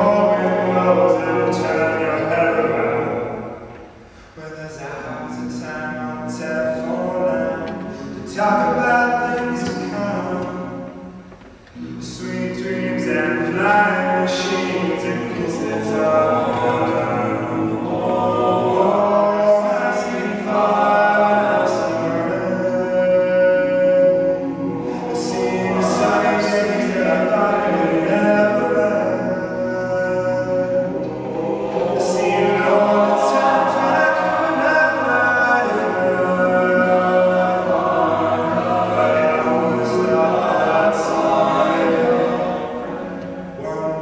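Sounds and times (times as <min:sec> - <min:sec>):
lead male voice singing: 0:00.0 - 0:03.5, 0:04.4 - 0:11.0, 0:11.8 - 0:44.0
male backing harmonies: 0:00.0 - 0:44.0.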